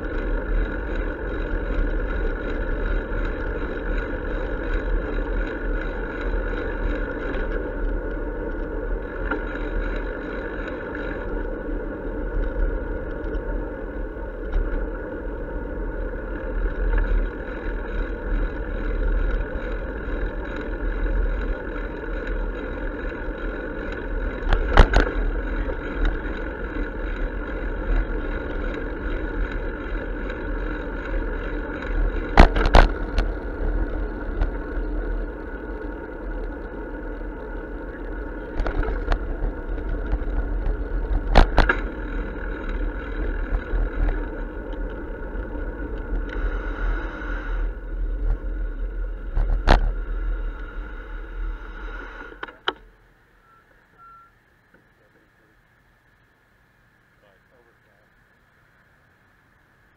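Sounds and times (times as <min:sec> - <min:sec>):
bicycle rolling on pavement: 0:00.0 - 0:53.4, 0:54.5 - 0:59.9.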